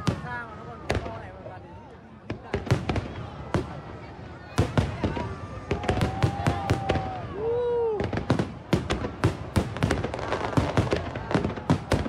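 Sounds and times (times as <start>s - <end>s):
fireworks bursting: 2.2s - 12.0s.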